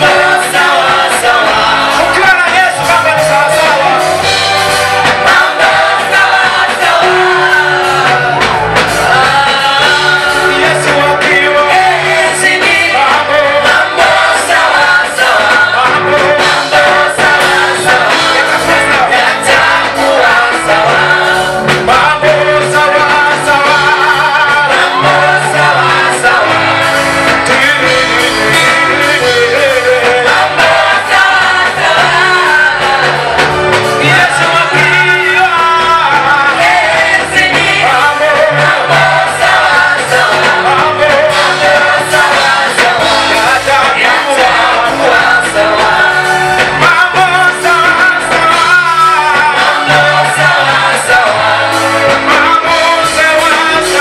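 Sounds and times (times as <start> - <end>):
band playing: 0.0 - 54.0
group singing gospel: 0.0 - 54.0.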